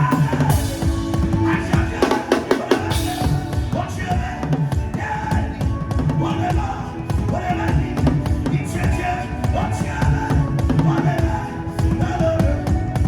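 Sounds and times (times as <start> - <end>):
fast drum beats: 0.0 - 13.0.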